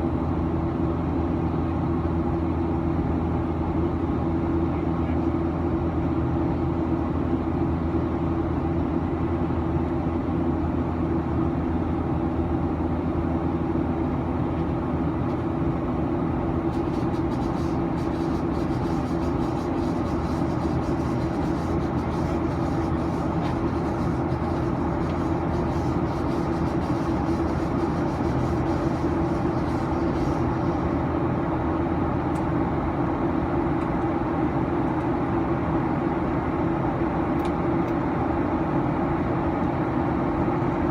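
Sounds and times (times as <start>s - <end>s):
airplane cabin engine hum: 0.0s - 40.9s.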